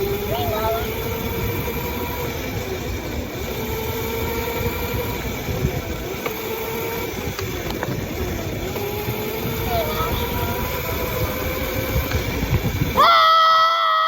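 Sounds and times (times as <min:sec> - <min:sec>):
motorbike engine running: 0:00.0 - 0:13.2
wind noise on microphone: 0:00.0 - 0:14.0.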